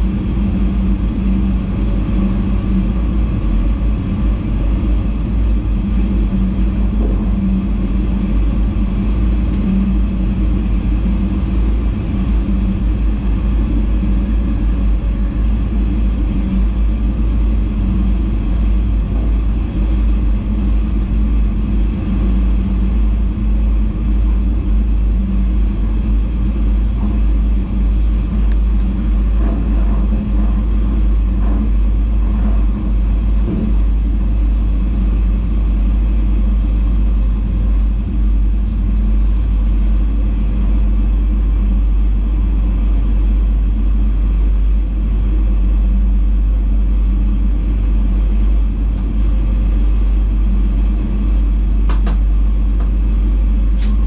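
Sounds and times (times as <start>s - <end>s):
electric train rumbling: 0.0s - 54.0s
low steady hum: 0.0s - 54.0s.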